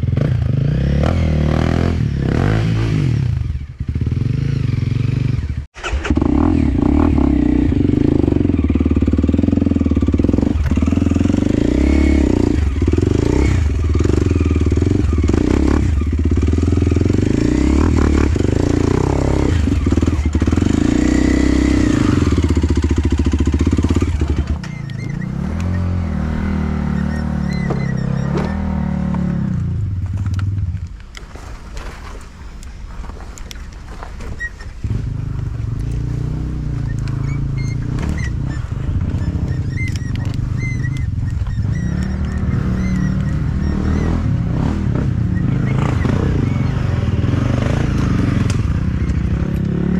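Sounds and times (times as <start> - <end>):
dirt bike engine revving: 0.0 - 30.5, 34.4 - 49.9.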